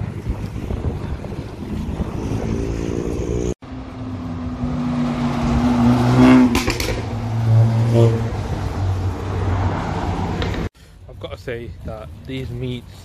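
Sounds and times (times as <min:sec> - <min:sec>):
car engines and tyre noise: 0:00.0 - 0:13.0.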